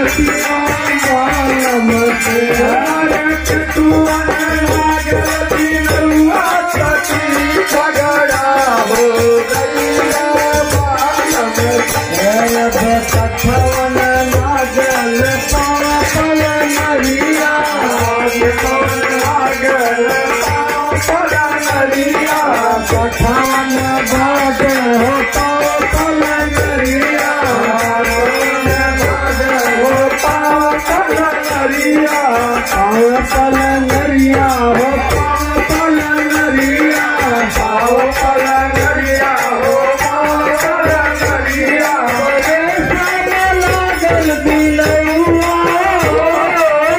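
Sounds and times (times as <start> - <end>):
men singing folk song: 0.0 - 46.9.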